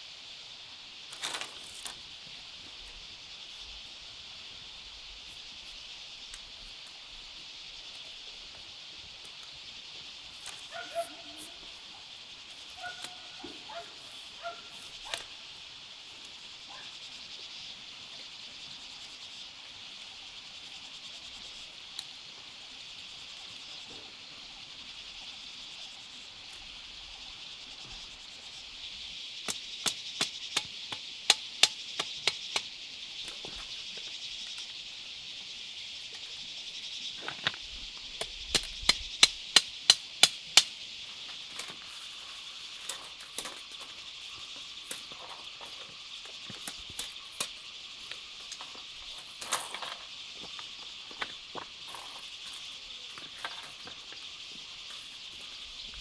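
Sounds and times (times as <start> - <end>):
high insect chorus: 0.0 - 56.0.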